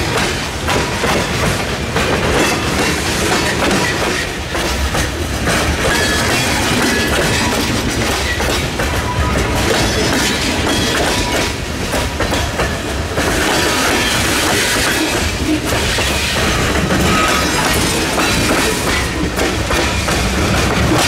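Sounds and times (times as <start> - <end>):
clickety-clack over rail joints: 0.0 - 21.0
train wheels rumbling on rail: 0.0 - 21.0.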